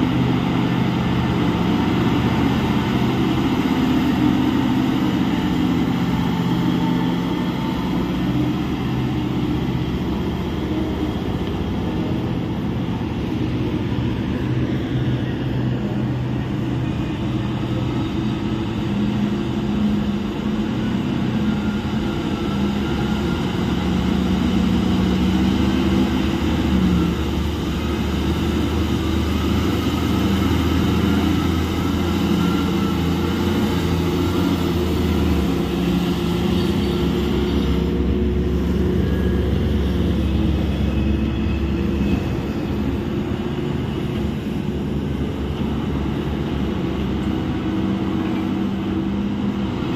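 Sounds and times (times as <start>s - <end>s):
haul truck diesel engine under load: 0.0s - 49.9s.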